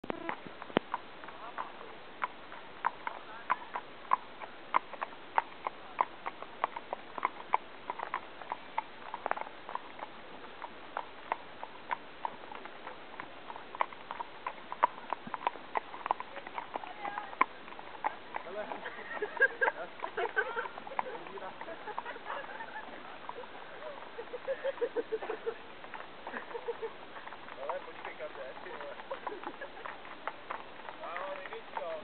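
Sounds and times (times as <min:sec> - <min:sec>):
horse hooves on hard road: 0:00.0 - 0:32.0.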